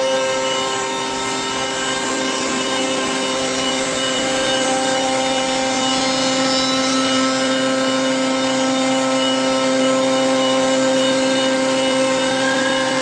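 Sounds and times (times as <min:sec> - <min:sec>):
cutter milling wood hiss: 0:00.0 - 0:13.0
machine spindle whining: 0:00.0 - 0:13.0.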